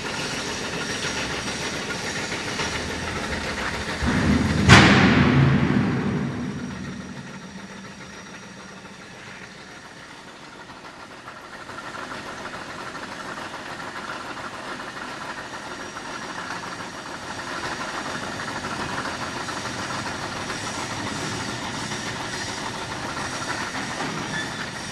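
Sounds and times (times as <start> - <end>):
heavy machinery humming and hissing: 0.0 - 24.9.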